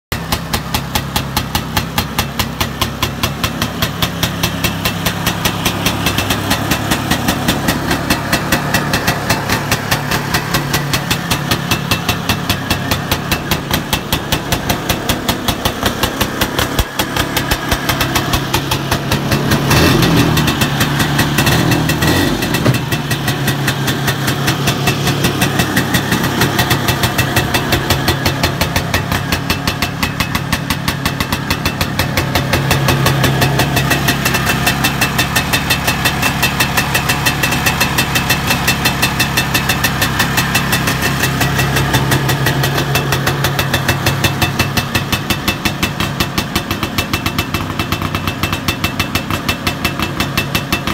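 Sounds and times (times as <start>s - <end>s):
two-stroke engine idling and revving: 0.0s - 50.9s.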